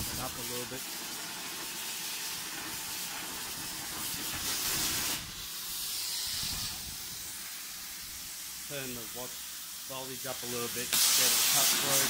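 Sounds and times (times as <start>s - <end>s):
plasma cutter hissing: 0.0s - 12.0s.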